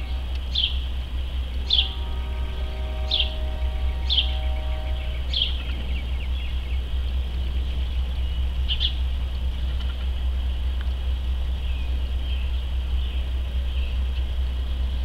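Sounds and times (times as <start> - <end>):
high falling bird chirps: 0.0 - 14.8
humming tone: 0.0 - 15.0
low rumble: 0.0 - 15.0.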